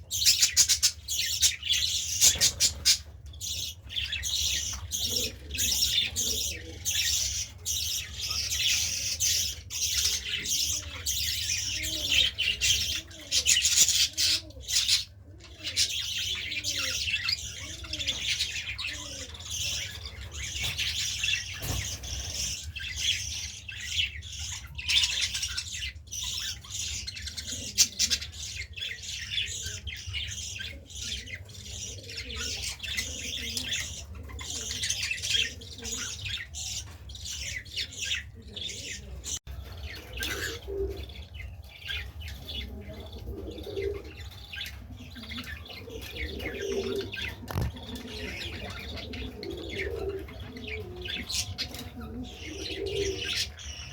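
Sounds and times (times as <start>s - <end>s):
birds chirping and squawking: 0.0s - 53.9s
pigeon cooing: 0.0s - 53.9s.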